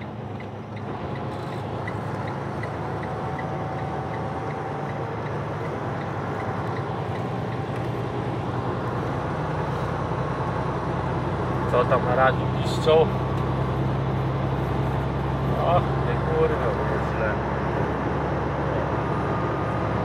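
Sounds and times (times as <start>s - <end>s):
truck diesel engine drone: 0.0s - 20.0s
tyre noise on highway: 0.0s - 20.0s.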